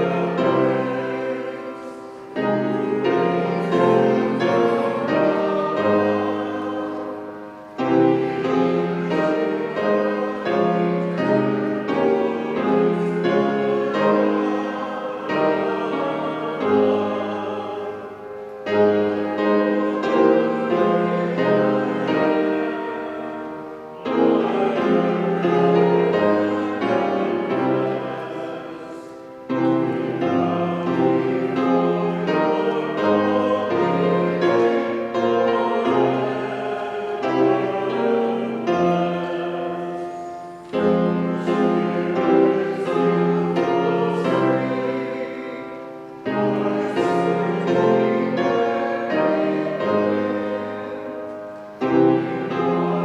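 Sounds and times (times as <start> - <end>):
keyboard accompaniment: 0.0 - 53.0
voices singing a hymn: 0.0 - 53.0.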